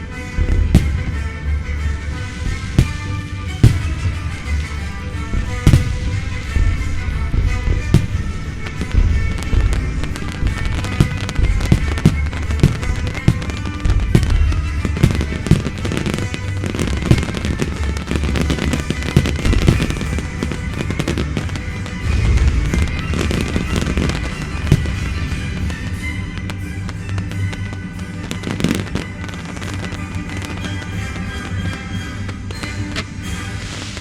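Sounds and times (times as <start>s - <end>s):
fireworks bangs and crackling: 0.0s - 34.0s
loud music playing: 0.0s - 34.0s.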